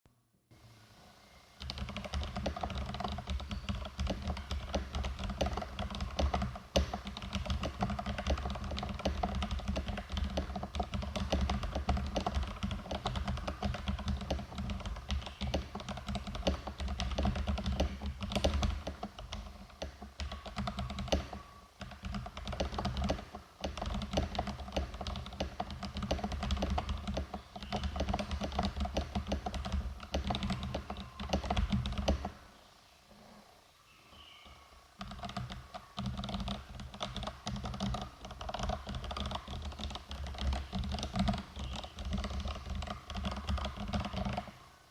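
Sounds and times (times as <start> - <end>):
fast mechanical keyboard typing: 1.6 - 32.4, 35.0 - 44.6.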